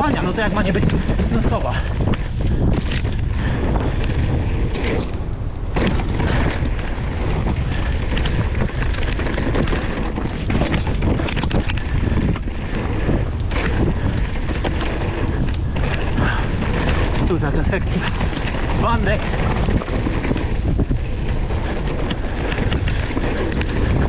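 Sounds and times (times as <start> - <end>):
bike knocks and rattles: 0.0 - 24.0
wind rumble on microphone: 0.0 - 24.0.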